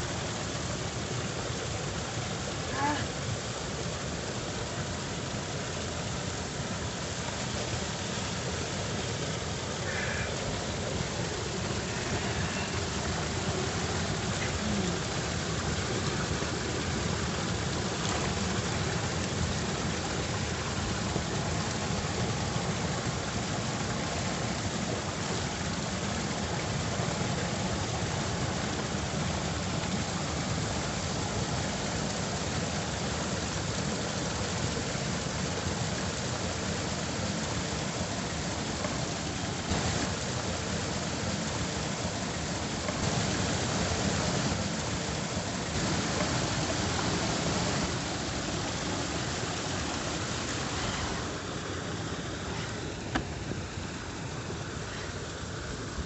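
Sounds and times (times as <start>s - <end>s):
water rushing through channel: 0.0s - 56.0s.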